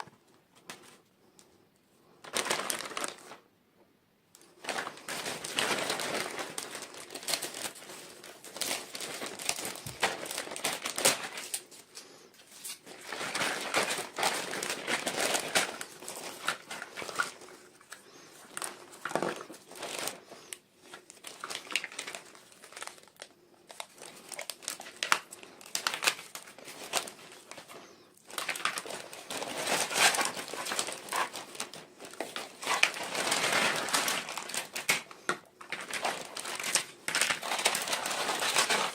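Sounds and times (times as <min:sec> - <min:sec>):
packaging crinkling and rustling: 0:02.2 - 0:03.5, 0:04.4 - 0:38.9.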